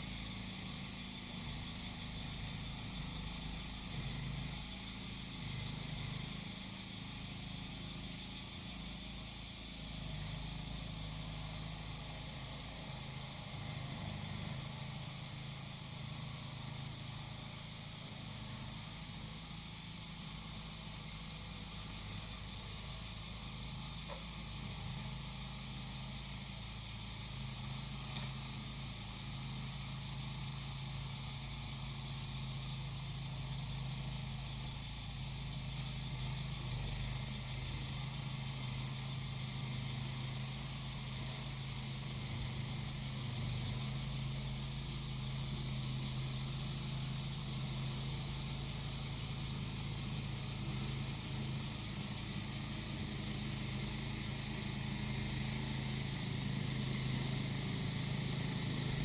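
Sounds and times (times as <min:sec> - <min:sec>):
cicadas buzzing: 0:00.0 - 0:59.0
lawn mower engine running: 0:00.0 - 0:59.0.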